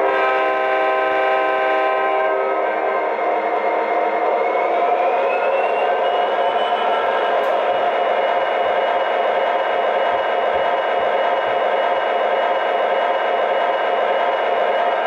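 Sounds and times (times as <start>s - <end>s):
diesel locomotive engine revving: 0.0s - 15.0s.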